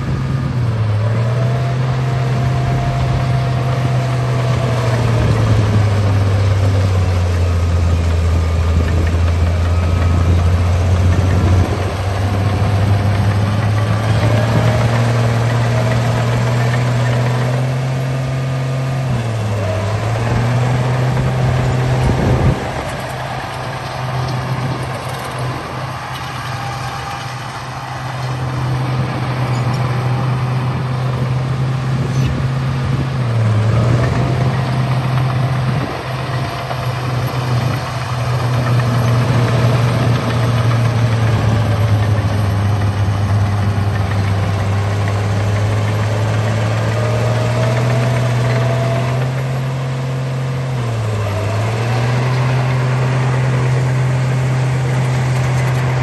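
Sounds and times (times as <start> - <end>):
bulldozer engine humming: 0.0 - 56.0.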